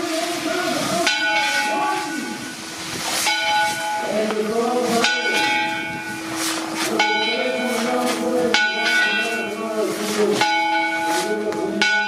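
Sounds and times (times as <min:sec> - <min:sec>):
steady hiss: 0:00.0 - 0:11.8
church bell tolling: 0:01.0 - 0:12.0.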